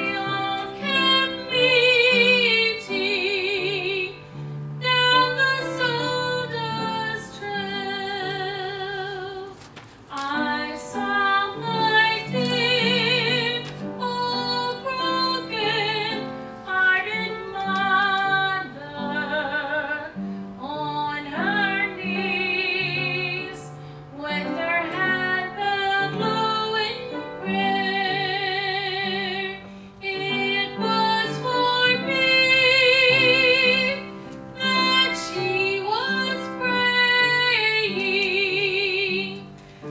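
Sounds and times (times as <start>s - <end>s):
woman singing gospel: 0.0s - 4.2s, 4.8s - 34.0s, 34.6s - 39.5s
instrumental accompaniment: 0.0s - 39.9s.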